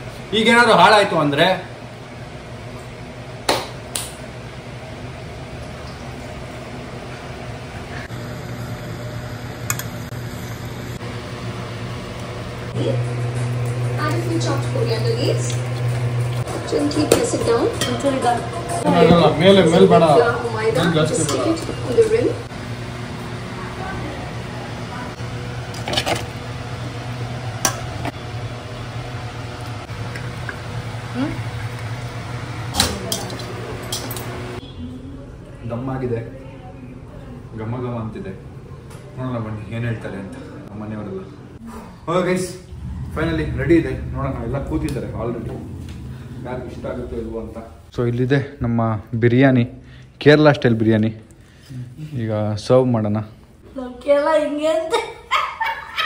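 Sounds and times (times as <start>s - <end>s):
machine humming: 0.0s - 35.3s, 37.0s - 50.2s.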